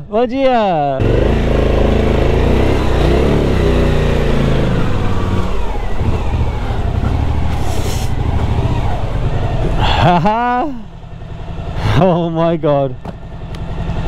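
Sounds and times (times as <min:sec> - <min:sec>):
motorcycle engine revving and idling: 0:01.0 - 0:14.0.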